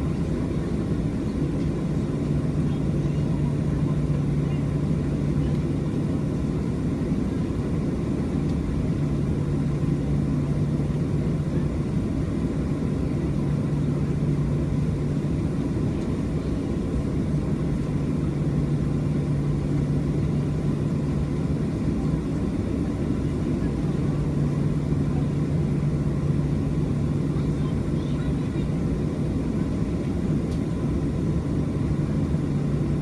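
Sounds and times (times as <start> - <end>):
jet engines droning in cabin: 0.0 - 33.0.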